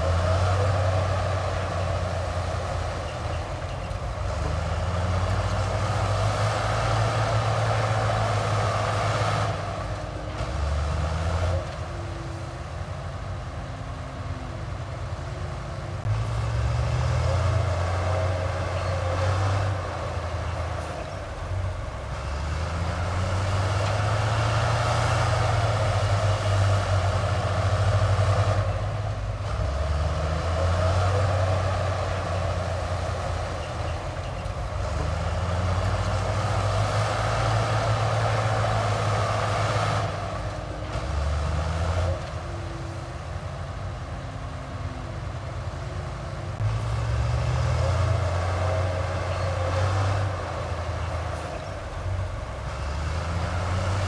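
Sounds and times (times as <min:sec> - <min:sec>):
heavy diesel engine working: 0:00.0 - 0:54.0.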